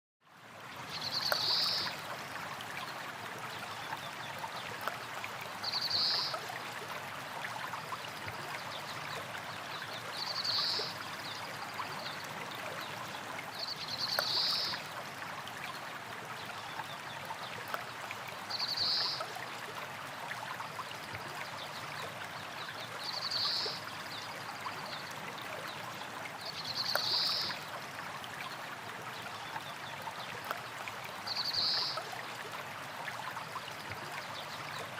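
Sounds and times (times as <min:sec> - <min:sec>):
stream flowing over rocks: 0:00.2 - 0:34.9.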